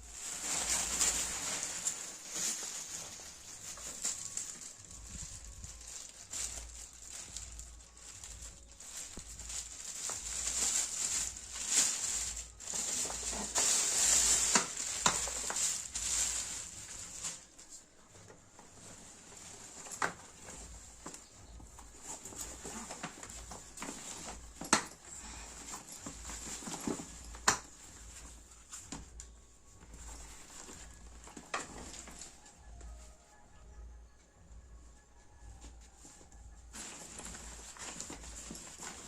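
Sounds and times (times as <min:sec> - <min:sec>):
fabric bag rustling: 0:00.0 - 0:33.4, 0:35.2 - 0:39.0.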